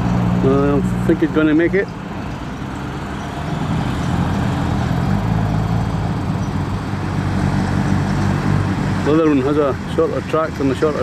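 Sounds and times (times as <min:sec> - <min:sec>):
tractor diesel engine working: 0:00.0 - 0:11.0.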